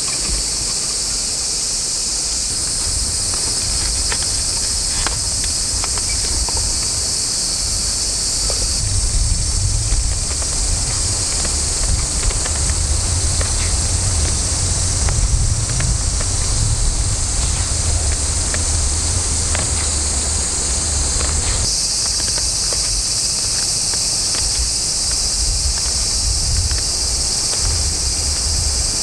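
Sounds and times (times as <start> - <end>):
high-pitched insect chorus: 0.0 - 29.0
wind rumble on microphone: 2.2 - 29.0.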